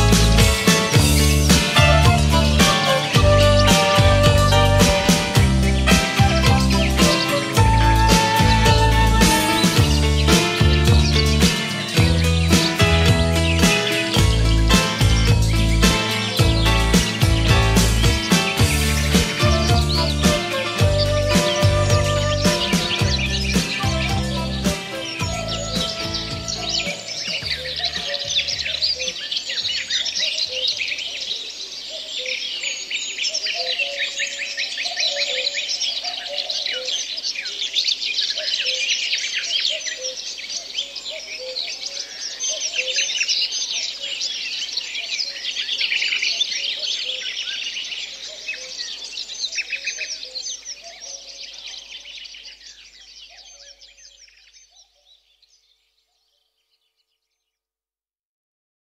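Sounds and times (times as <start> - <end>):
songbirds chirping and trilling: 0.0 - 57.6.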